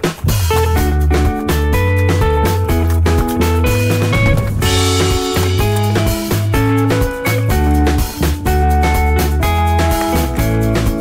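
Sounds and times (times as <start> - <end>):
background music with guitar and drums: 0.0 - 11.0.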